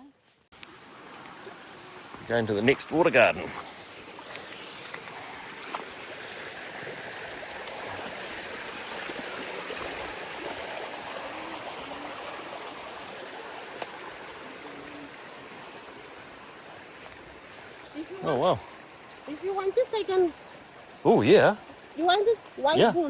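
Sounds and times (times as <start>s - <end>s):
small stream running water: 0.0s - 23.0s.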